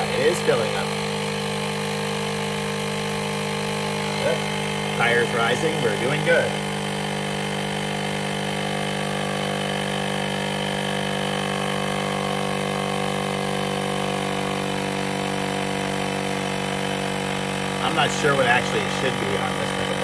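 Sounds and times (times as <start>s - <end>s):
tire inflator compressor humming: 0.0s - 20.0s.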